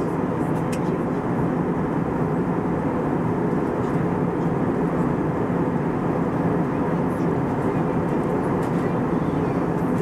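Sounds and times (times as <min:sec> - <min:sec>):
airliner engines droning: 0:00.0 - 0:10.0.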